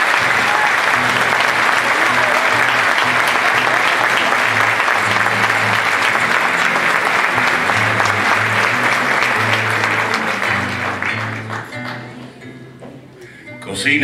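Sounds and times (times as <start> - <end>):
audience applause: 0.0 - 12.4
acoustic guitar low notes: 1.0 - 13.8.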